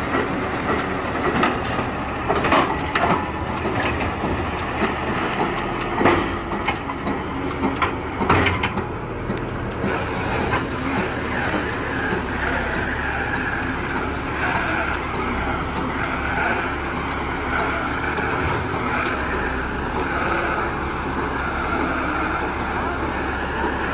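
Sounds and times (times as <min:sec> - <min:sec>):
baler and tractor engine running: 0:00.0 - 0:23.9
machinery knocks and clatter: 0:00.0 - 0:23.9.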